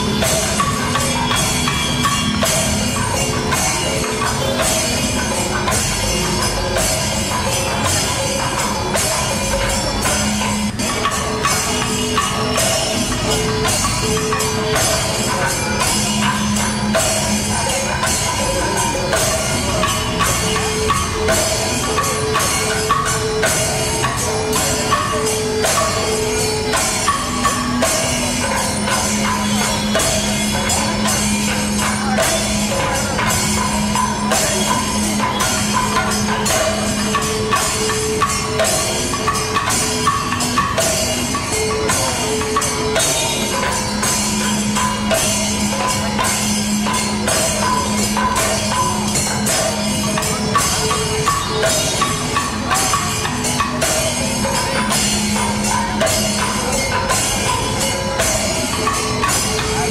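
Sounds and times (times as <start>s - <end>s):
steady percussion beat: 0.0s - 59.9s.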